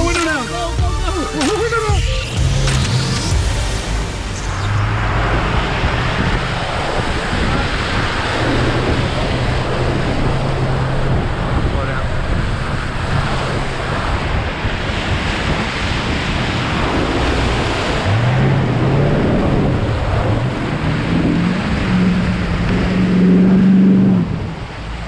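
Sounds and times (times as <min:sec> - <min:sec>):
water surging and splashing: 0:00.0 - 0:25.0
engine revving under load: 0:02.3 - 0:25.0.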